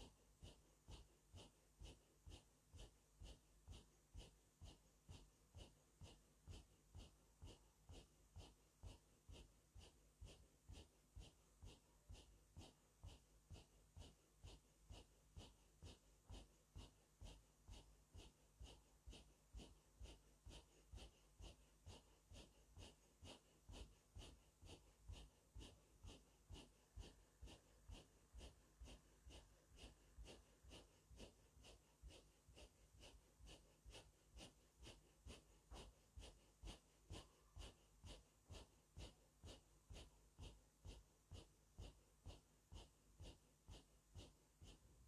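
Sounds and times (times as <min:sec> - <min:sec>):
forceful breathing through nose: 0:00.0 - 0:45.0.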